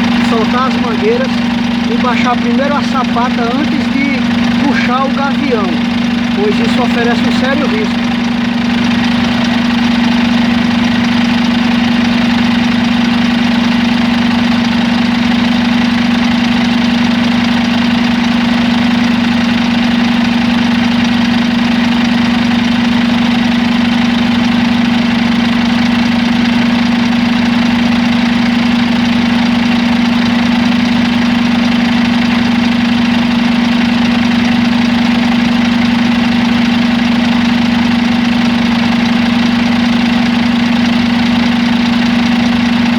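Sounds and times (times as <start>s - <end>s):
truck diesel engine idling: 0.0s - 42.9s.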